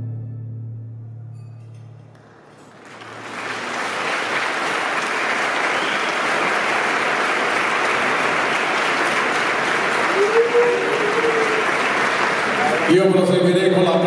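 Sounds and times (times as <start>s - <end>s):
large audience applauding: 2.1s - 14.0s.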